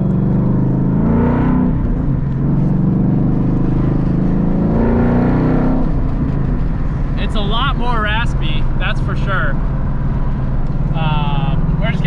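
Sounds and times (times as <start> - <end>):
car exhaust revving: 0.0 - 12.0.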